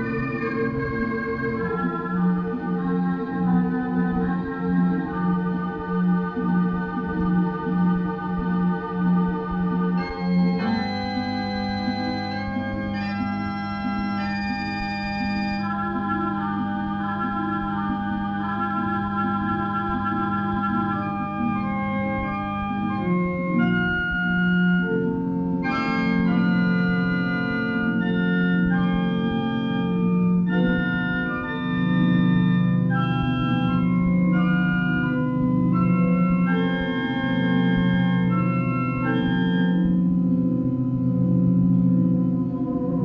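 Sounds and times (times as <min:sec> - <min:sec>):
organ-like keyboard music: 0:00.0 - 0:43.0.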